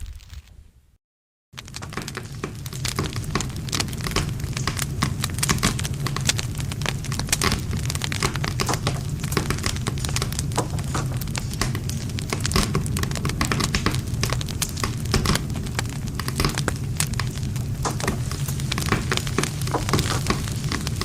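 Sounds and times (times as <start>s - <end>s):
campfire crackling and popping: 1.6s - 21.0s
low rumble of flames: 1.6s - 21.0s.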